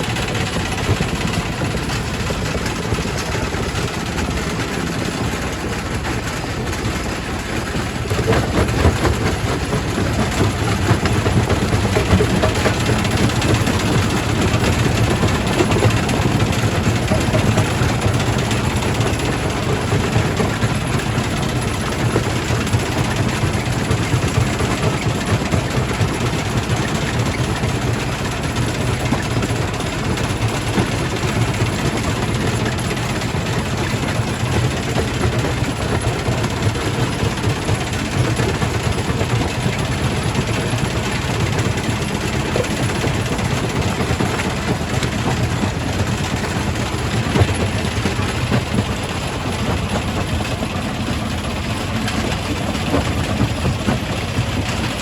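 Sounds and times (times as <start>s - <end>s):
rock crusher rumbling and grinding: 0.0s - 55.0s.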